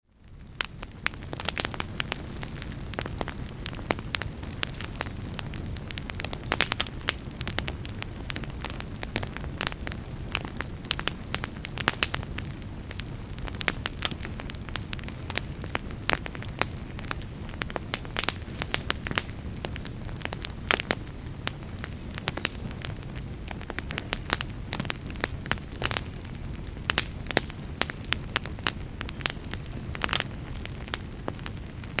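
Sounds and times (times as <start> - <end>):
burning wood crackling: 0.0 - 32.0
campfire flame rumble: 0.0 - 32.0.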